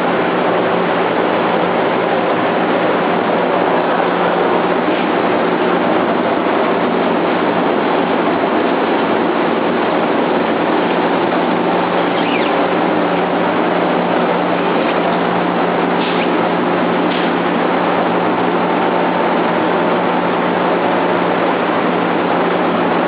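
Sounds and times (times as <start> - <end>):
roasting machine running: 0.0 - 23.0.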